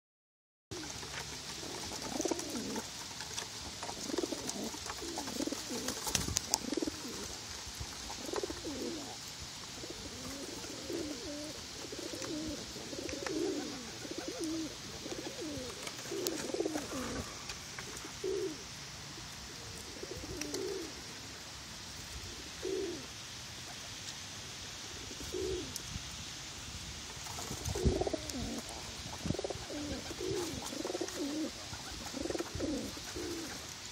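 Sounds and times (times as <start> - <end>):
pigeons cooing: 0.7 - 21.1, 22.4 - 23.1, 25.0 - 25.8, 27.2 - 33.9.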